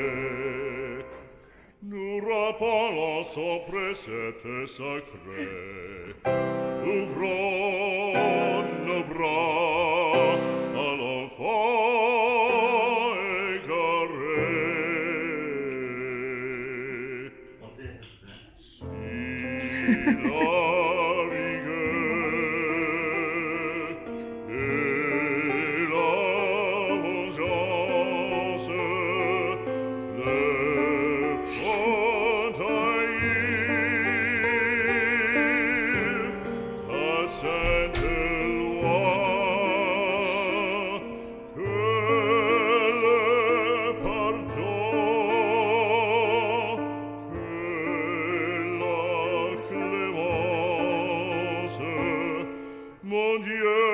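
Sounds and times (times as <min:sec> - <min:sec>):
operatic voice singing: 0:00.0 - 0:17.8, 0:18.6 - 0:53.9
classical accompaniment: 0:00.0 - 0:53.9.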